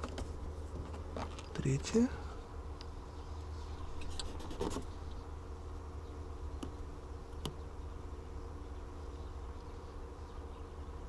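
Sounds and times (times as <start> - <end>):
faint buzzing drone: 0.0 - 11.0
low hum: 0.0 - 11.0.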